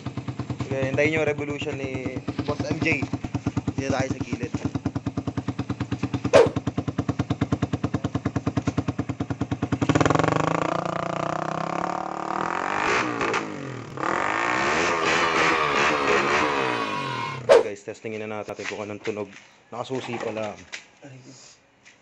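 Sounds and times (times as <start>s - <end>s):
motorcycle engine idling and revving: 0.0s - 17.7s.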